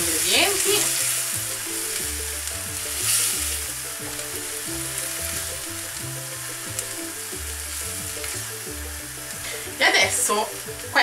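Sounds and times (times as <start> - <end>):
vegetables sizzling in a frying pan: 0.0 - 11.0
spatula stirring in pan: 0.2 - 9.8.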